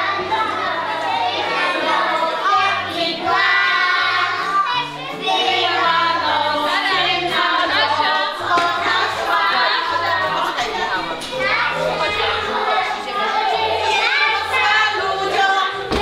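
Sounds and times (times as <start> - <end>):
children singing: 0.0 - 16.0.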